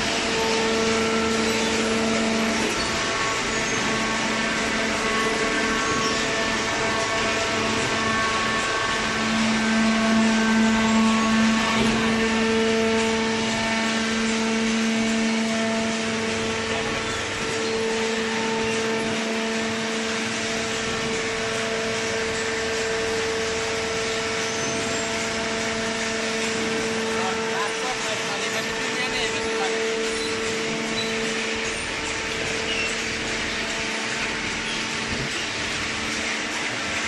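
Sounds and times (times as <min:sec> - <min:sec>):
baler machine humming: 0:00.0 - 0:37.0.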